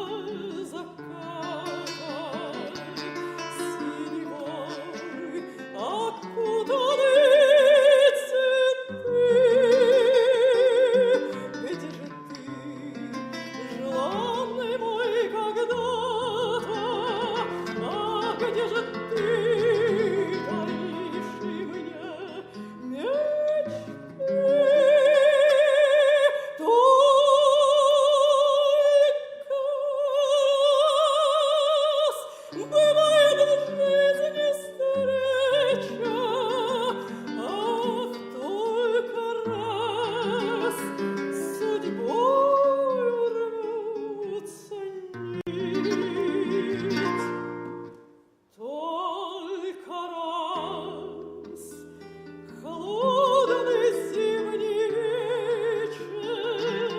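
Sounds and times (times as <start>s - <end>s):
woman singing operatically: 0.0s - 56.9s.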